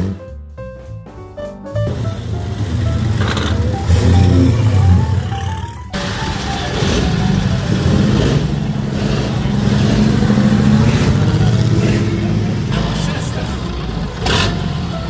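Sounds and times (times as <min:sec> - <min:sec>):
car engine passing: 0:01.8 - 0:15.0.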